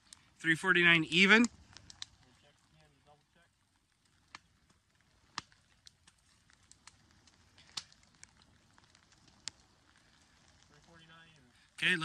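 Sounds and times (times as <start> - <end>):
faint outdoor hiss: 0.0 - 12.0
sharp ticks and crackles: 0.0 - 12.0.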